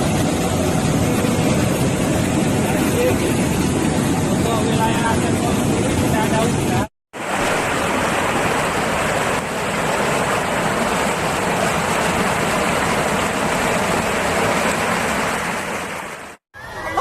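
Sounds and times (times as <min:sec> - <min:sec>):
floodwater rushing: 0:00.0 - 0:16.4.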